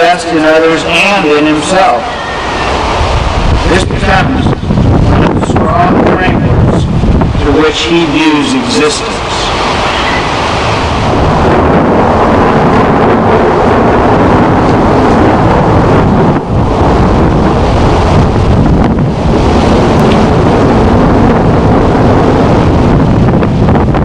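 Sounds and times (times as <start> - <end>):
loud steady rushing noise: 0.0 - 24.0.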